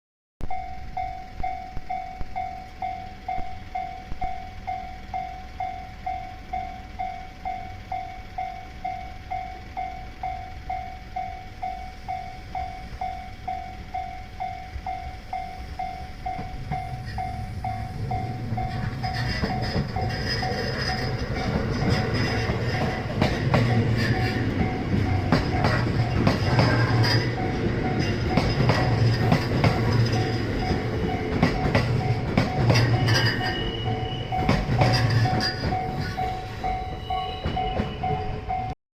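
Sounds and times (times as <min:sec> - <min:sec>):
electric train rumble: 0:00.4 - 0:38.8
level crossing warning bell ringing: 0:00.4 - 0:38.8.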